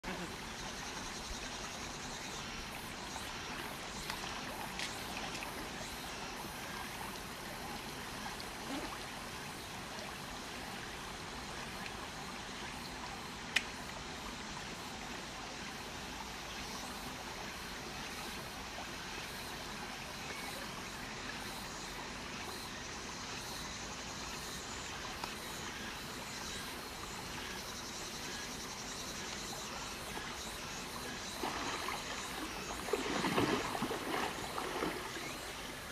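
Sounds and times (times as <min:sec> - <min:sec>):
stream trickling over rocks: 0:00.1 - 0:35.9.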